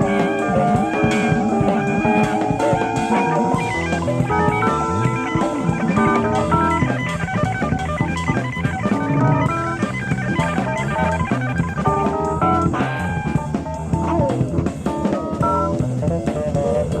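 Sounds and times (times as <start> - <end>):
drum kit: 0.0 - 17.0
electric guitar runs: 0.0 - 17.0
walking bass line: 0.0 - 17.0.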